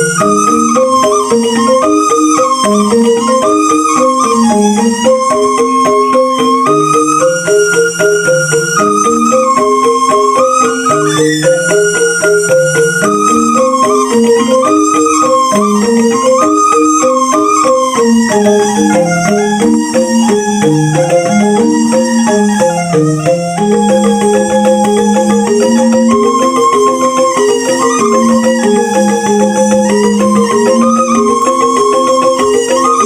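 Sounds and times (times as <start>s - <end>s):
bamboo xylophone playing: 0.0s - 33.0s
flute-like melody: 0.0s - 33.0s.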